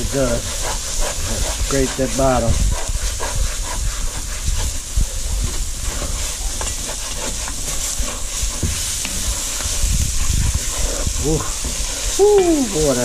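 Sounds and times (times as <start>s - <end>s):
sizzle and hiss of steam: 0.0s - 13.0s.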